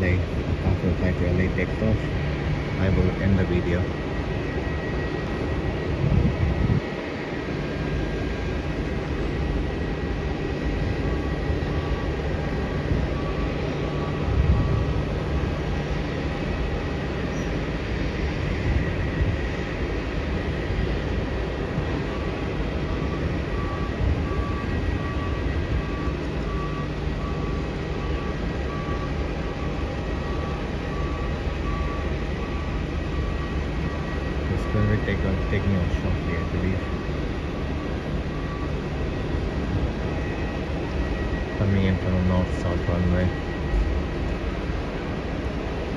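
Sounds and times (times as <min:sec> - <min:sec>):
faint high whine: 0:00.0 - 0:45.9
jet engines rumbling: 0:00.0 - 0:45.9
traffic: 0:00.0 - 0:45.9.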